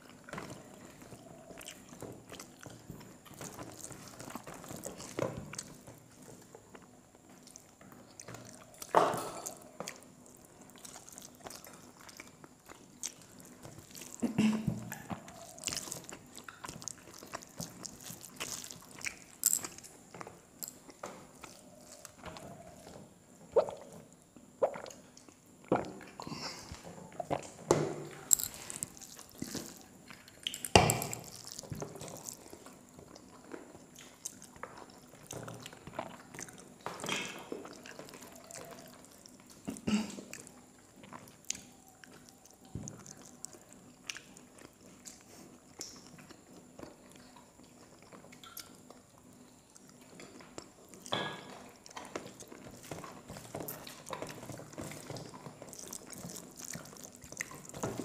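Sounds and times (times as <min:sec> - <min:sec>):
chewing and mouth noises: 0:00.0 - 0:58.0.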